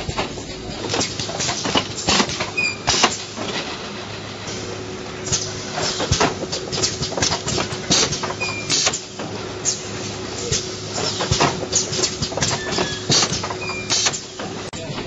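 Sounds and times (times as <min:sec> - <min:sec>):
pneumatic grippers clacking: 0:00.0 - 0:15.0
steady machine hum: 0:00.0 - 0:15.0.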